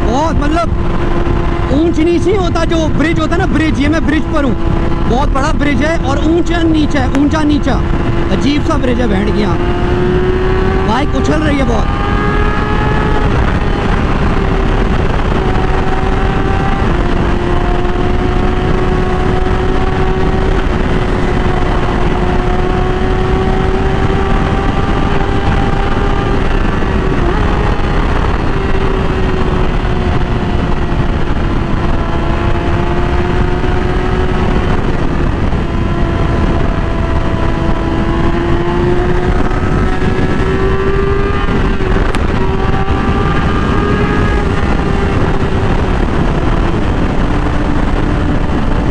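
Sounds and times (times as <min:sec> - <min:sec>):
motorcycle engine running: 0:00.0 - 0:48.9
wind rush over microphone: 0:00.0 - 0:48.9.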